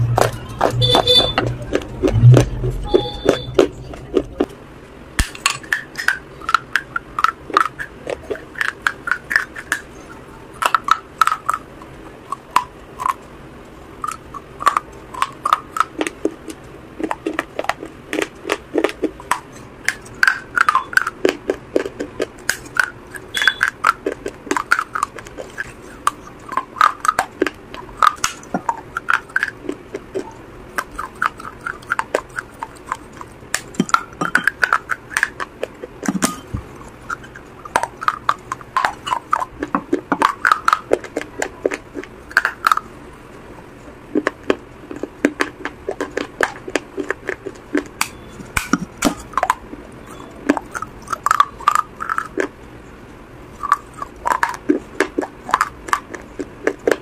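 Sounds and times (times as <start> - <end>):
crunching clay bites: 5.2 - 10.0, 14.0 - 42.9, 44.1 - 52.5, 53.5 - 57.0.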